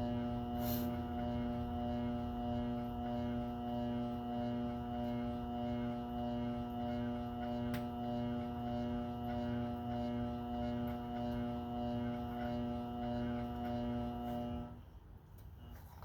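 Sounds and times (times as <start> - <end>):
treadmill motor humming: 0.0 - 14.8.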